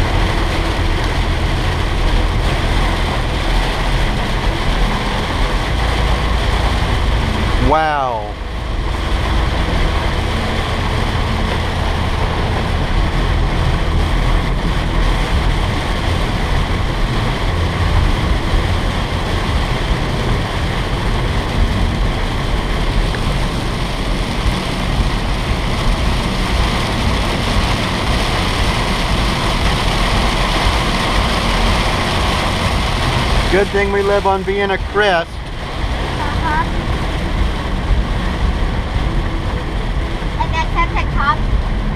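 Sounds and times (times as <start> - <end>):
car tyres and engine rumbling: 0.0 - 41.9
heavy rain on a car: 0.0 - 41.9.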